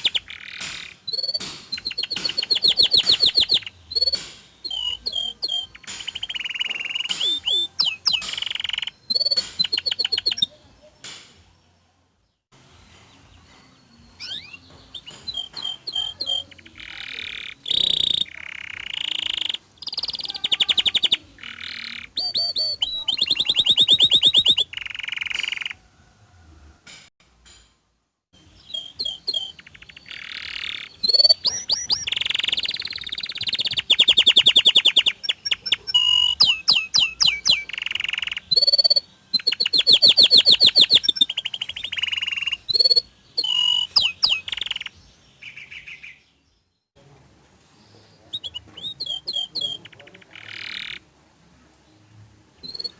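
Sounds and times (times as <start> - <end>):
canary singing trills: 0.0 - 11.2, 12.9 - 25.9, 28.4 - 46.9, 47.8 - 51.1, 52.6 - 52.9.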